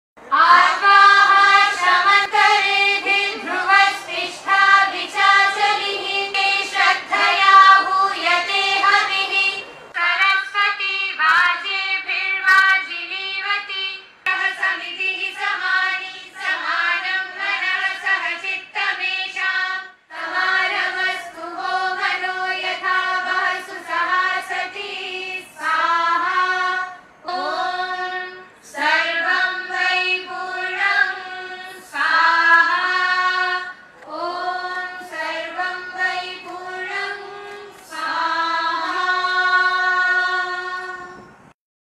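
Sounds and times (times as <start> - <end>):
girls singing a chant in unison: 0.2 - 41.5.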